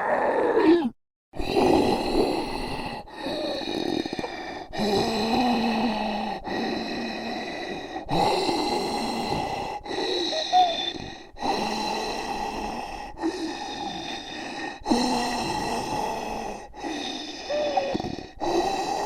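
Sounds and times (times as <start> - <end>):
raspy zombie groaning and breathing: 0.0 - 19.0.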